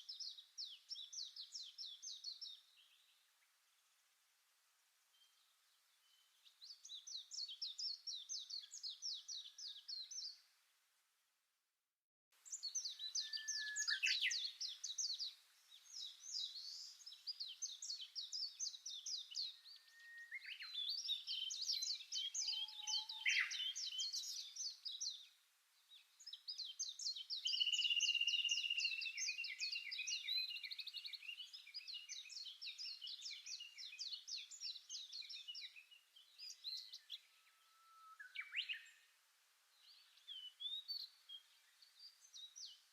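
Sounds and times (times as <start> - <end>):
songbird chirping: 0.0 - 11.2, 12.4 - 42.9.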